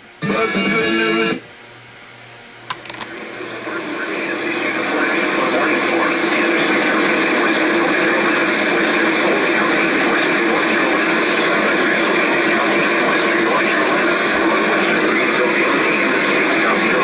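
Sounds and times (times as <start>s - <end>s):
narrow-band radio static hiss: 0.0s - 17.0s.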